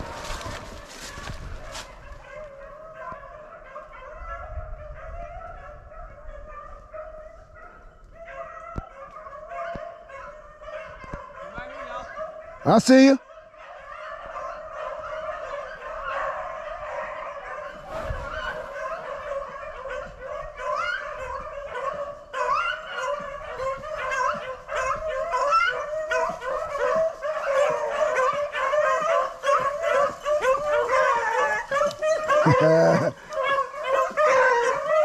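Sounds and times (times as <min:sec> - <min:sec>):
beagles baying: 0:00.0 - 0:35.0.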